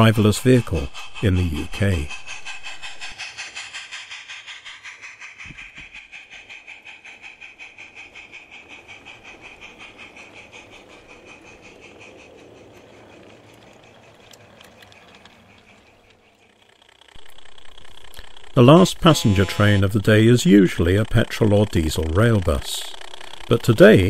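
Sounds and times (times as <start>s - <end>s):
coaches rolling on track: 0.0s - 24.0s
steam hissing: 0.0s - 24.0s
steam locomotive chuffing: 0.0s - 24.0s.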